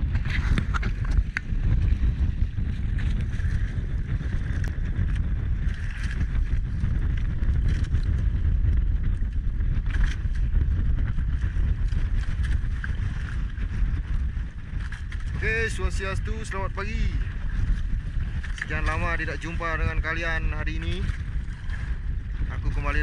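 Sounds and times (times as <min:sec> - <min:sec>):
boat engine rumble: 0:00.0 - 0:23.0
wind buffeting microphone: 0:00.0 - 0:23.0.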